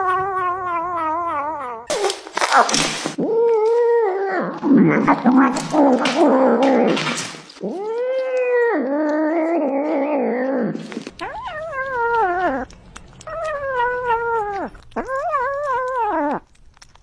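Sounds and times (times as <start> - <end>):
cat growl-meowing while eating: 0.0 - 17.0.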